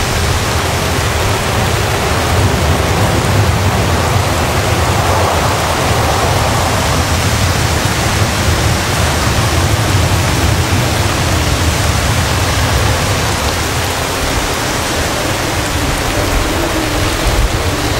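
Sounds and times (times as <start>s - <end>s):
deep rumble: 0.0s - 17.9s
heavy rain: 0.0s - 17.9s
strong wind thrashing palms: 0.0s - 17.9s.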